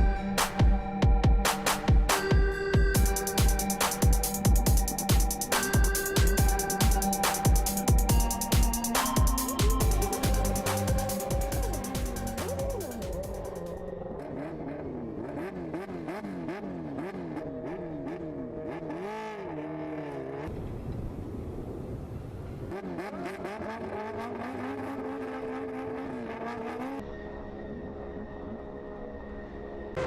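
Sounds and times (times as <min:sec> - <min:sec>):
racing engine accelerating: 0:03.0 - 0:20.5, 0:22.7 - 0:30.0.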